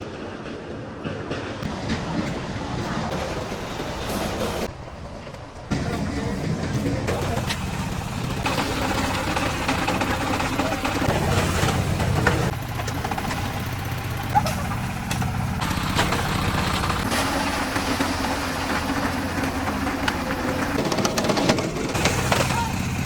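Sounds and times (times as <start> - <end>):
concrete mixer engine running: 1.6 - 4.7, 5.7 - 23.0.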